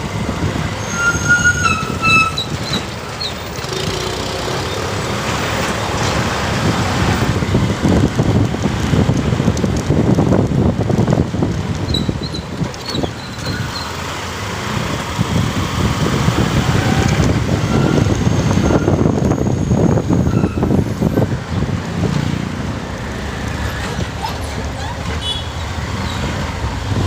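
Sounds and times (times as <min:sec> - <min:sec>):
road noise: 0:00.0 - 0:27.0
wind buffeting microphone: 0:01.7 - 0:27.0
motorcycle engine: 0:02.4 - 0:27.0.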